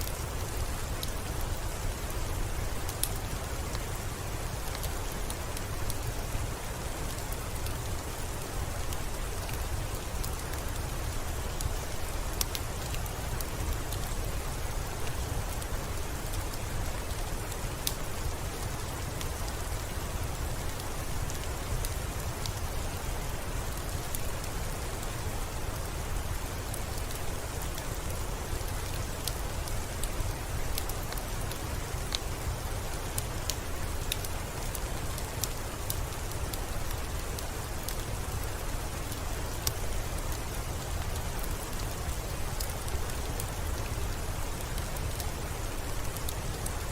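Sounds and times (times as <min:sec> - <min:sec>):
rain pattering on window: 0:00.0 - 0:46.9.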